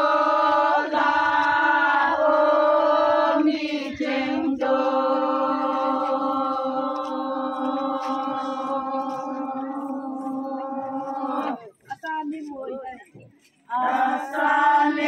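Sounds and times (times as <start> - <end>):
women chanting in unison: 0.0 - 11.8, 13.7 - 15.0.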